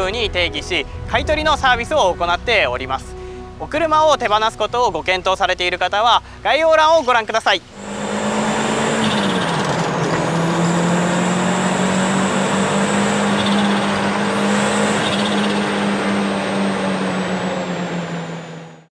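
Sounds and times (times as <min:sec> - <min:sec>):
steady rushing noise: 0:00.0 - 0:18.6
car engine running: 0:00.0 - 0:18.9.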